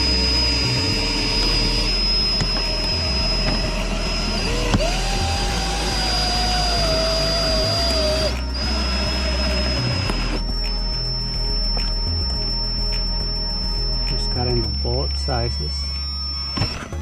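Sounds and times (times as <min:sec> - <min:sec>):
electric winder motor whining: 0:00.0 - 0:17.0.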